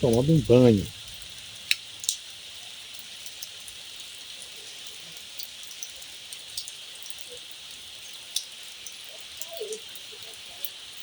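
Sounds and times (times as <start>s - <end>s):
light rain hissing: 0.0s - 11.0s
raindrops ticking on surfaces: 0.0s - 11.0s.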